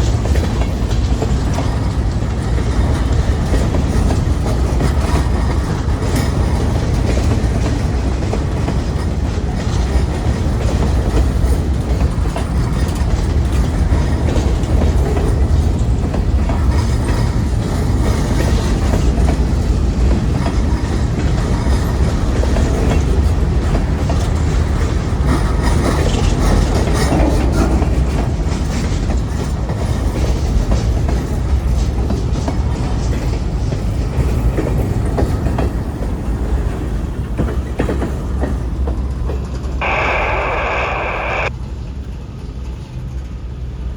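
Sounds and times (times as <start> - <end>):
wheels clacking over rail joints: 0.0 - 39.7
freight train rumbling past: 0.0 - 43.9.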